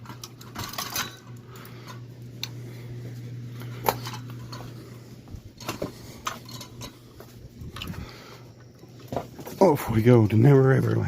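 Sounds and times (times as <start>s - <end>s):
metal fan parts clinking: 0.0s - 11.0s
steady low hum: 0.0s - 11.0s.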